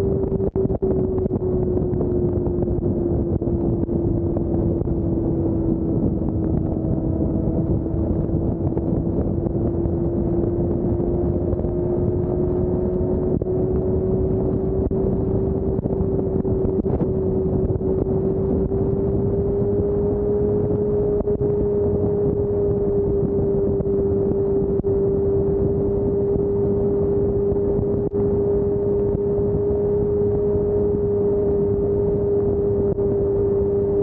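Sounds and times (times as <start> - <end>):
motorcycle engine cruising: 0.0 - 34.0
wind and road noise: 0.0 - 34.0.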